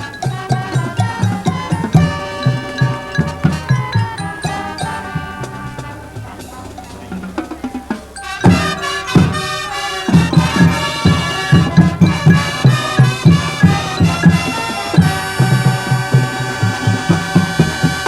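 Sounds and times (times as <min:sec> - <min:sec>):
loud ensemble hits: 0:00.0 - 0:18.0
marching band playing: 0:00.0 - 0:18.0
steady low drum beat: 0:00.0 - 0:18.0
wind chords: 0:00.0 - 0:18.0.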